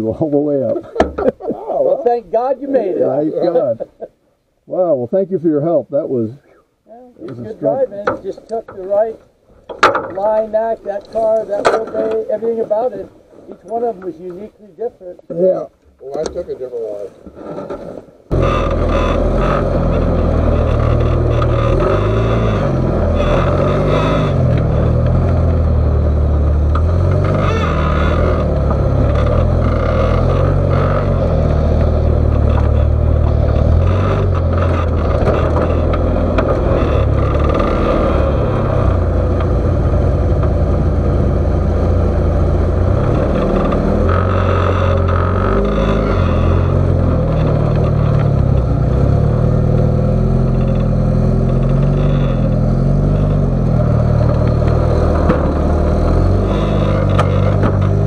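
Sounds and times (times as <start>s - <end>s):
buggy engine running: 7.2s - 17.0s, 17.6s - 58.0s.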